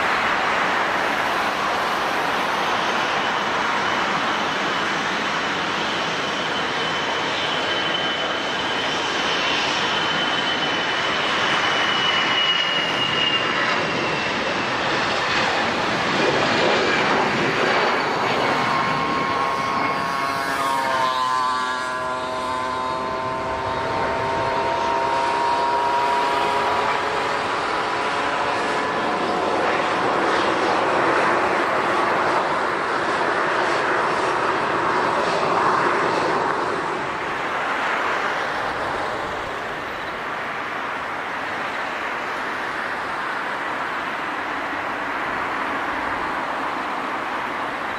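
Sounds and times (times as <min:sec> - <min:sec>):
airliner engines whining: 0:00.0 - 0:47.9.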